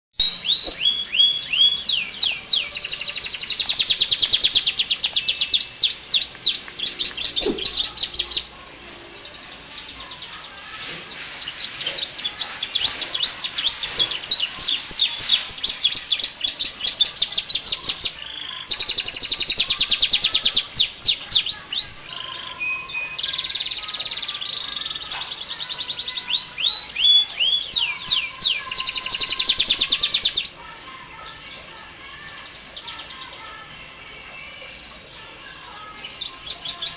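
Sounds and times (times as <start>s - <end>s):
canary singing trills: 0.2s - 36.9s.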